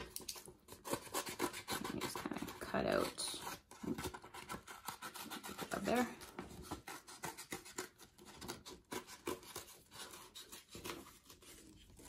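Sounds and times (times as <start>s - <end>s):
scissors snipping paper: 0.0s - 12.0s.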